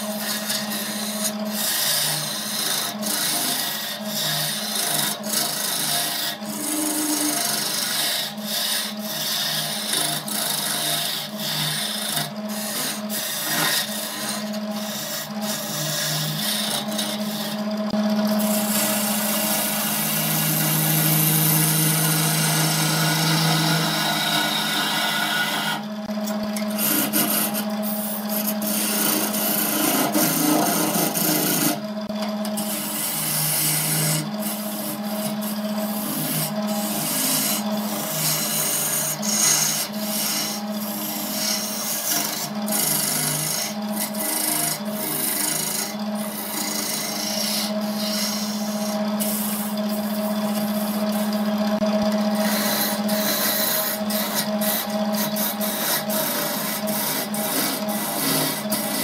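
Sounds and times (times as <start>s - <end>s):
turning tool scraping wood: 0.0s - 59.0s
wood lathe humming: 0.0s - 59.0s.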